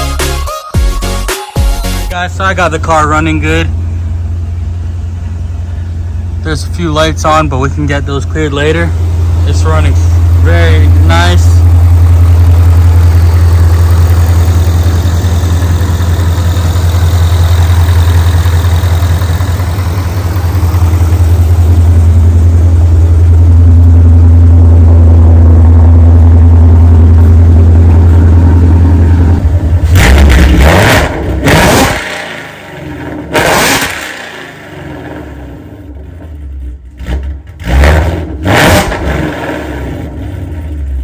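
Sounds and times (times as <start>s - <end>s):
car engine idling: 1.9s - 41.0s.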